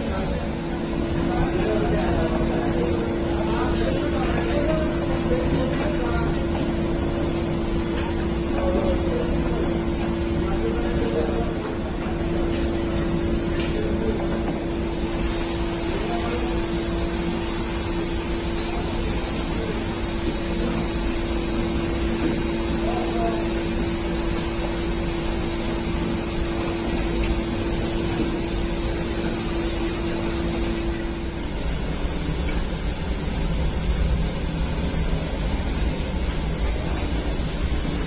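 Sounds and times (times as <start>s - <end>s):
machinery humming and whirring: 0.0s - 38.0s.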